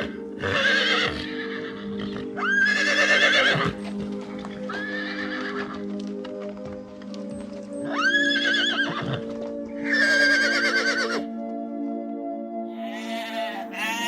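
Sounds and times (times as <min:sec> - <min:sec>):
drawn-out animal calls: 0:00.0 - 0:06.0, 0:06.8 - 0:11.3, 0:12.7 - 0:14.0
background music: 0:00.0 - 0:14.0.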